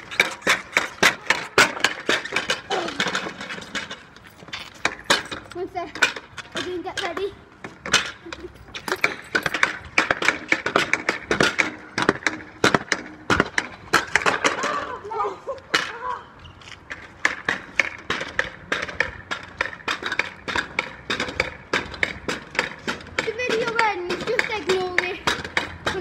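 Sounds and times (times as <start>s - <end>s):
pogo sticks clacking on ground: 0.0s - 26.0s.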